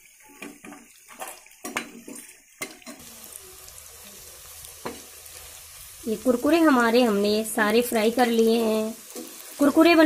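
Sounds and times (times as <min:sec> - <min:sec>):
dough frying in hot oil: 0:00.0 - 0:10.0.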